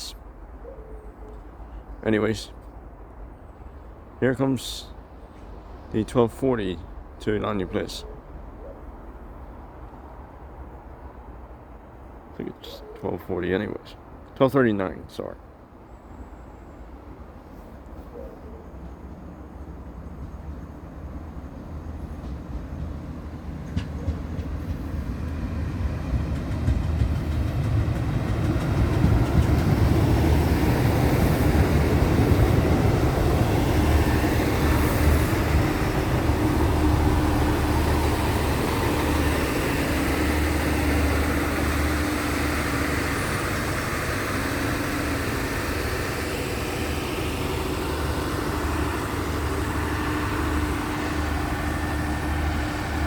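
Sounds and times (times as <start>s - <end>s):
diesel train engine hum: 0.0s - 14.3s, 15.2s - 53.0s.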